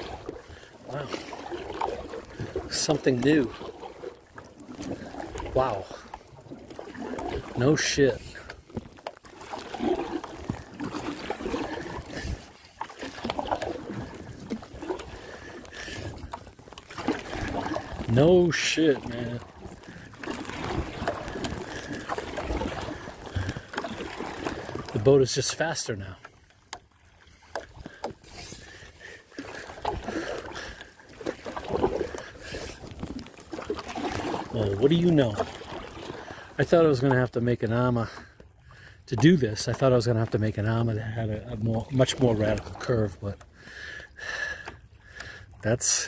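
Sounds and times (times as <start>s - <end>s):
paddle splashing through water: 0.0s - 46.0s.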